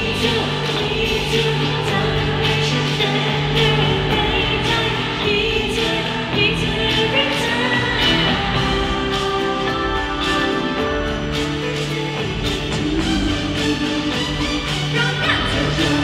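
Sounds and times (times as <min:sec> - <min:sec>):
live pop song over sound system: 0:00.0 - 0:16.0
singing into microphones: 0:00.0 - 0:16.0.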